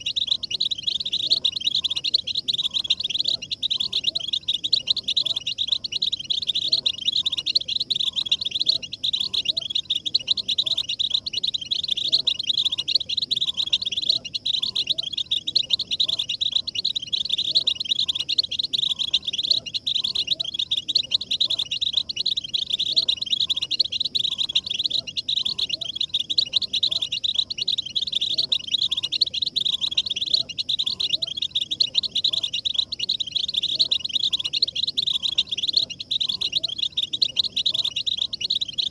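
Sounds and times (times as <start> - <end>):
goldfinches twittering: 0.0 - 38.9.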